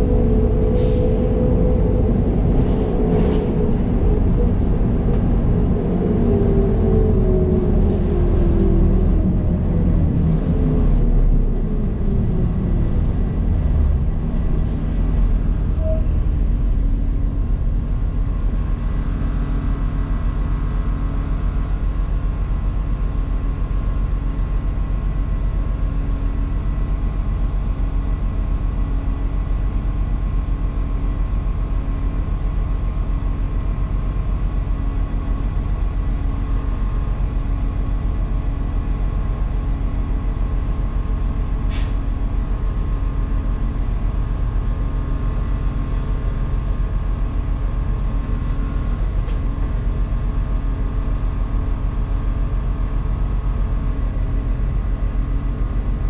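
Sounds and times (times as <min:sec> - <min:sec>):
bus engine idling: 0:00.0 - 0:56.0.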